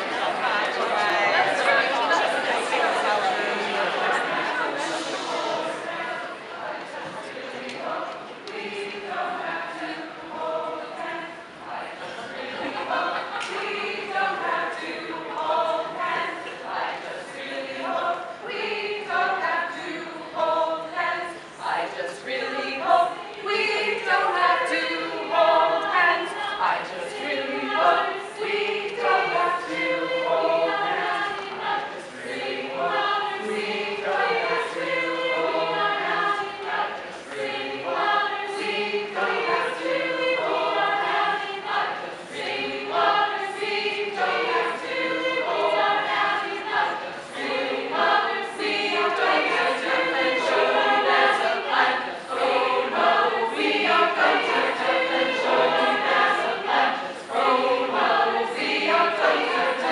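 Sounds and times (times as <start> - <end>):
a cappella chorus of voices: 0.0 - 59.9.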